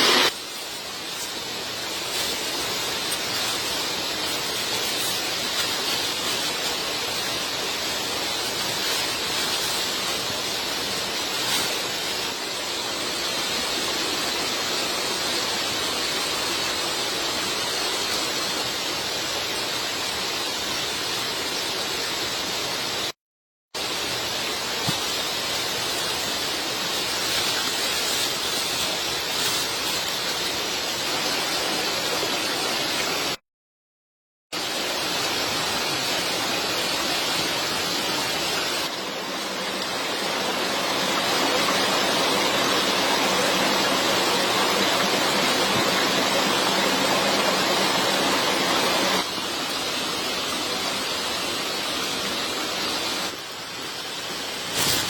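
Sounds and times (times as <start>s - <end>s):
steady rushing hiss: 0.0s - 23.1s, 23.8s - 33.4s, 34.6s - 55.0s.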